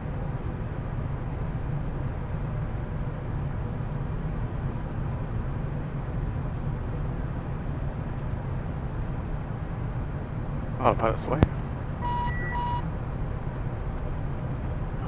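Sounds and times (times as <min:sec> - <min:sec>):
airflow and engine rumble in cockpit: 0:00.0 - 0:15.0
faint steady hum: 0:00.0 - 0:15.0.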